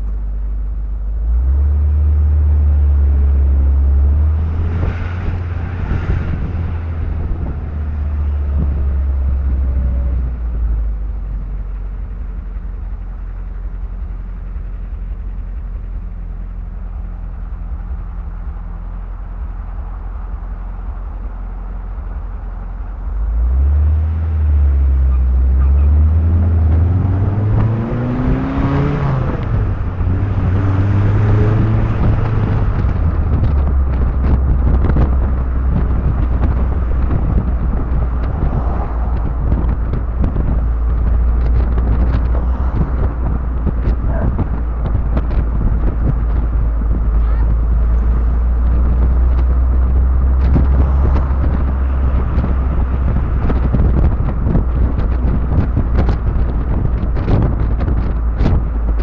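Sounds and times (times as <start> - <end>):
wind rumble on microphone: 0.0 - 59.0
car engine revving: 0.9 - 59.0.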